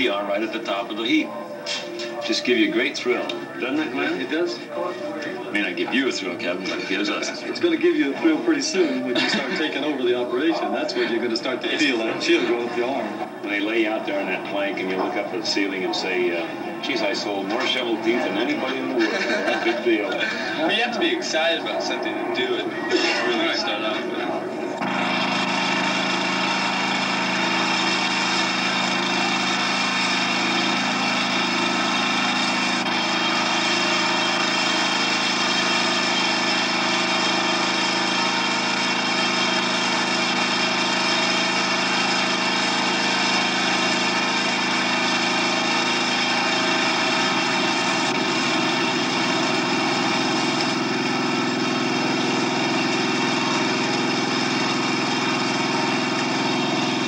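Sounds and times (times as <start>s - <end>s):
small engine machinery running: 0.0s - 57.0s.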